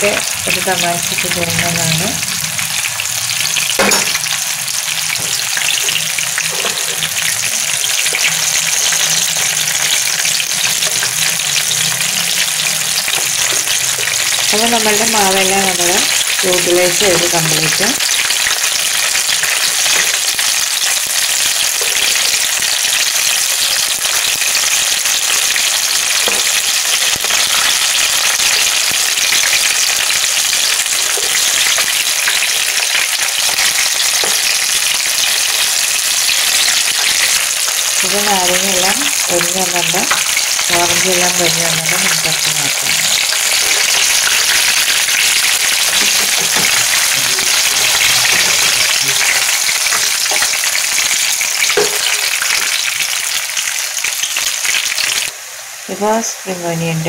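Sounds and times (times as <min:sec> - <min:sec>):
fritters sizzling in hot oil: 0:00.0 - 0:56.3.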